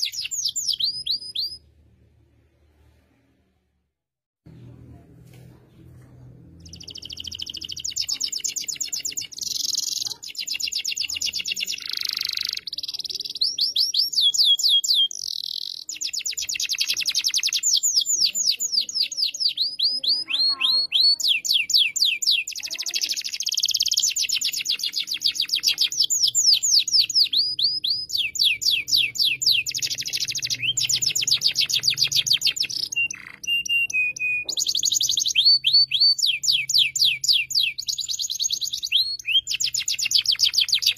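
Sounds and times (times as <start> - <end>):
canary singing trills: 0.0 - 1.7, 6.6 - 40.9.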